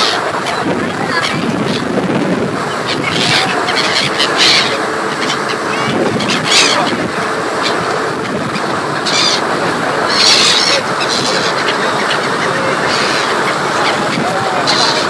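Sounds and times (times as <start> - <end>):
ferry engine and wake: 0.0 - 15.0
gulls calling: 0.0 - 15.0.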